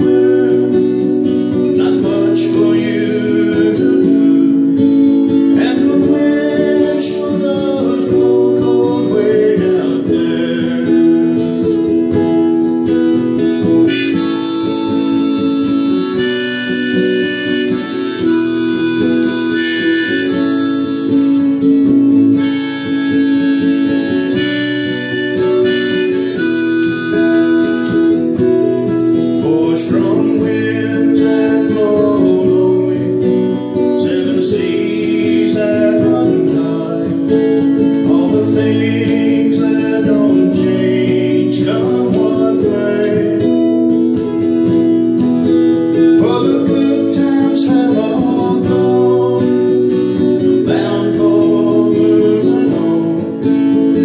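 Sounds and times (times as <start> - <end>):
harmonica melody: 0.0 - 54.0
strummed acoustic guitar: 0.0 - 54.0.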